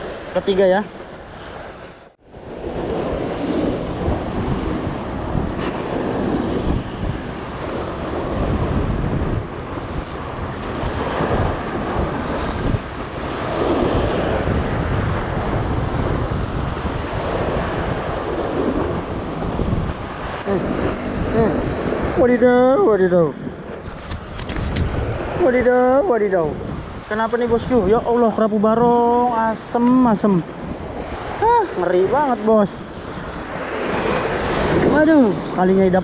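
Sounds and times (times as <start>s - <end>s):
waves breaking against a wall: 0.0s - 36.0s
wind buffeting microphone: 0.0s - 36.0s.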